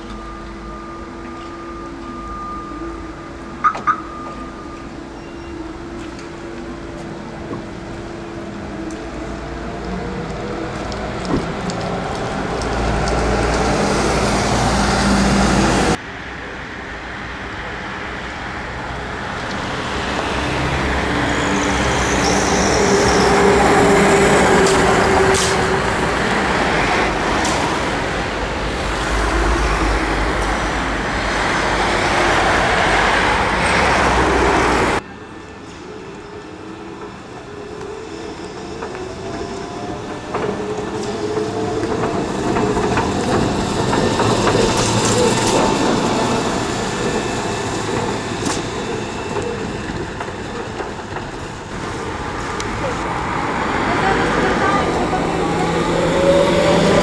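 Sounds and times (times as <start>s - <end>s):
trolleybuses and traffic passing: 0.0s - 57.0s.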